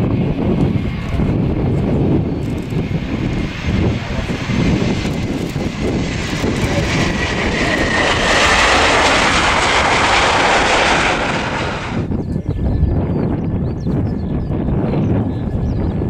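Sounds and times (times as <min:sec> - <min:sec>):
jet engine rush: 0:00.0 - 0:13.1
low rumble: 0:00.0 - 0:13.8.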